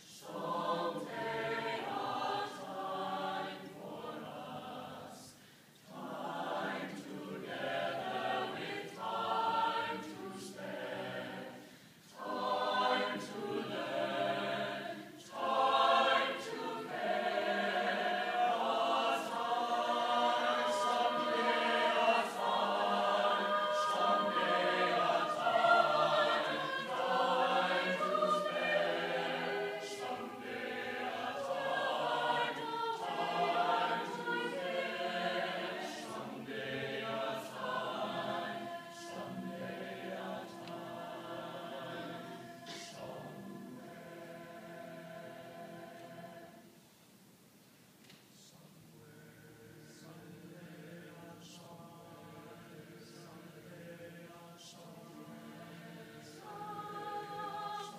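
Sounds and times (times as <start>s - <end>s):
choir singing: 0.0s - 46.8s, 48.4s - 57.9s.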